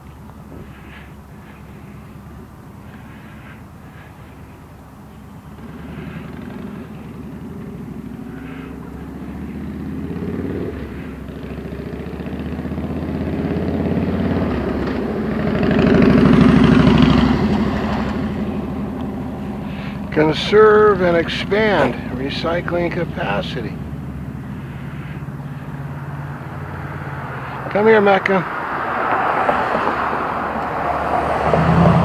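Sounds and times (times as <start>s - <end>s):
vehicle engine passing: 0.0s - 32.0s.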